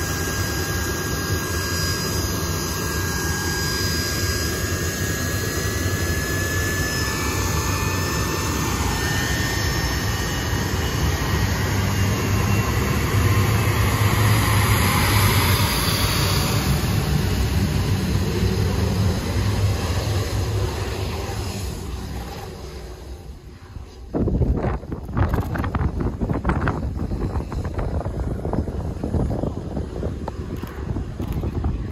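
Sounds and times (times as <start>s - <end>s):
jet aircraft taxiing: 0.0s - 31.9s.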